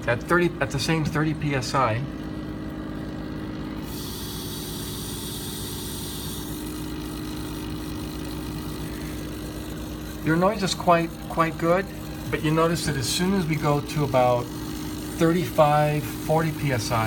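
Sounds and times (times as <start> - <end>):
pump humming: 0.0 - 17.0.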